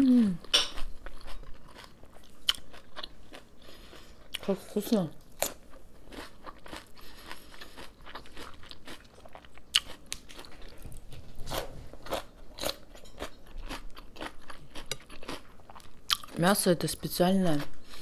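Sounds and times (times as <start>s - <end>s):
person chewing and crunching food: 0.0s - 18.0s.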